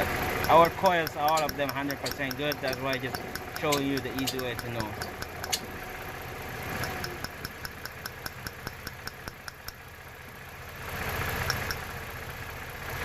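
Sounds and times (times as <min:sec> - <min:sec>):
car engine idling with ticking: 0:00.0 - 0:13.0.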